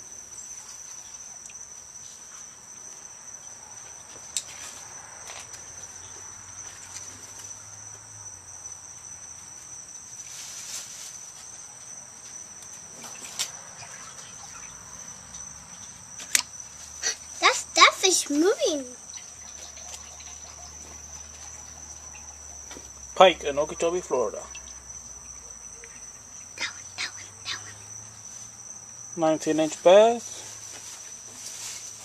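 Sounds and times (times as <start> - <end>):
insect trilling: 4.3 - 32.0.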